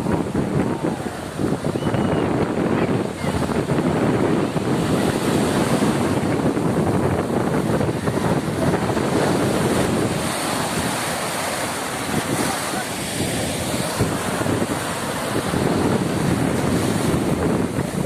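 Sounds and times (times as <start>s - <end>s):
sea surf at the shore: 0.0s - 18.0s
wind buffeting the microphone: 0.0s - 18.0s.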